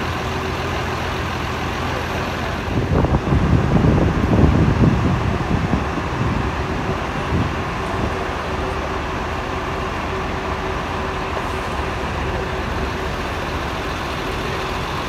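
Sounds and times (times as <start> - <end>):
bus engines idling: 0.0 - 15.0.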